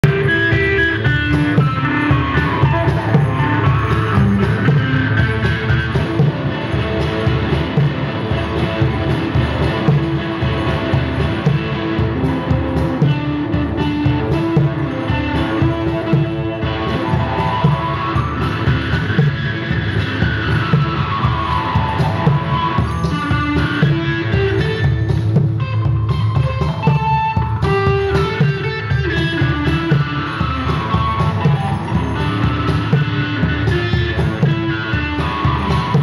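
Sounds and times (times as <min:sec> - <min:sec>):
busy percussion: 0:00.0 - 0:36.0
electric guitar riff: 0:00.0 - 0:36.0.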